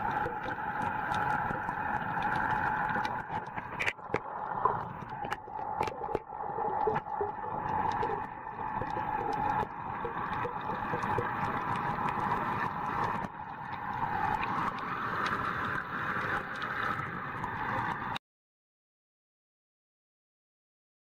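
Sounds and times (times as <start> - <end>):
muffled underwater hiss: 0.0 - 18.2
sharp underwater clicks and crackles: 0.0 - 18.2.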